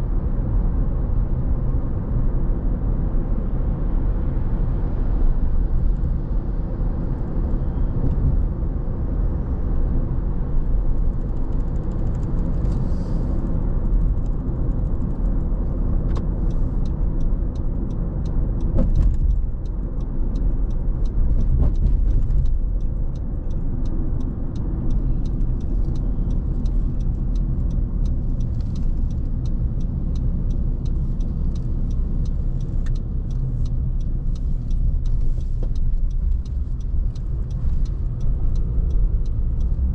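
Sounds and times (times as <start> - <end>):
car tyres and engine rumbling: 0.0 - 39.9.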